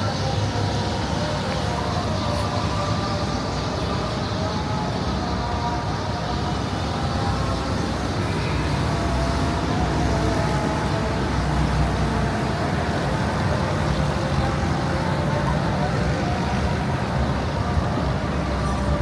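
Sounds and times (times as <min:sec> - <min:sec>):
faint engine hums: 0:00.0 - 0:19.0
street traffic rumble: 0:00.0 - 0:19.0.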